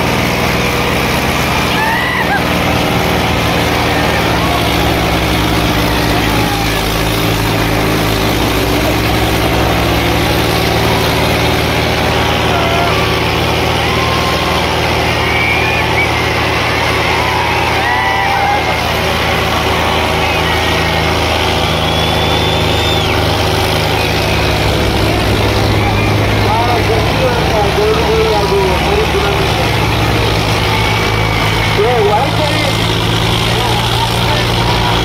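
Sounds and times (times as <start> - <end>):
diesel tractors under heavy load: 0.0 - 35.0
faint crowd voices: 0.0 - 35.0.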